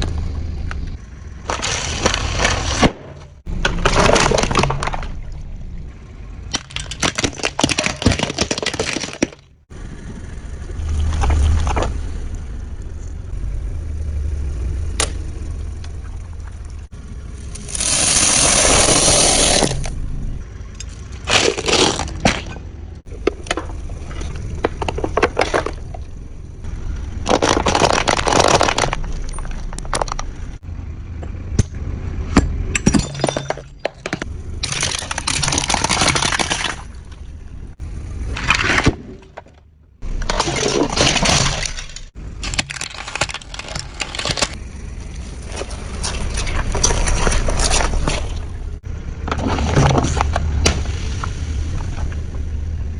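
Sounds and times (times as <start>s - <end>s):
tyres crushing brittle objects: 0.0s - 5.8s, 6.4s - 9.7s, 17.4s - 52.3s
car rumble: 0.0s - 52.9s.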